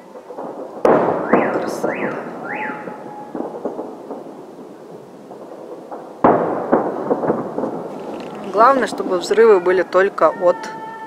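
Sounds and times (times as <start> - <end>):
distant fireworks bursting: 0.0 - 11.0
fireworks crackling: 0.0 - 11.0
fireworks whistles: 0.0 - 11.0.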